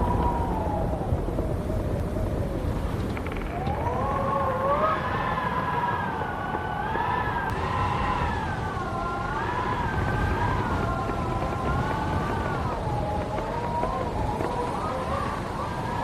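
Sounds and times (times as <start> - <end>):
howling wind whistle: 0.0 - 16.0.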